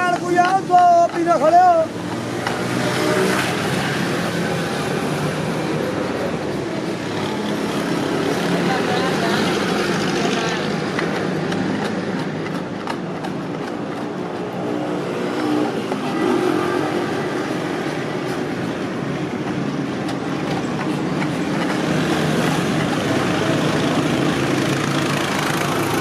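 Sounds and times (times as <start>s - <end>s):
vehicle engines running: 0.0s - 26.0s.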